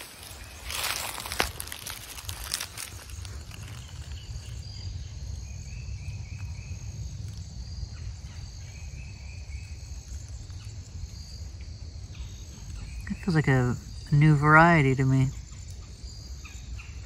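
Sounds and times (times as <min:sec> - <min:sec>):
insects trilling: 0:00.0 - 0:17.0
lower-pitched insect trills: 0:00.0 - 0:17.0.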